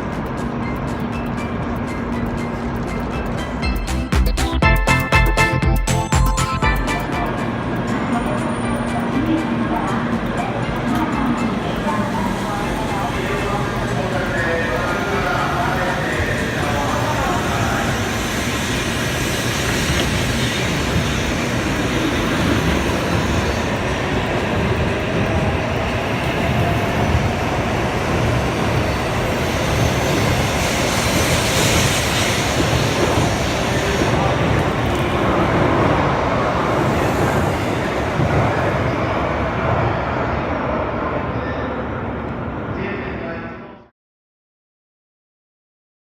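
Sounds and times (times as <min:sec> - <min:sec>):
train rushing past: 0:00.0 - 0:43.8.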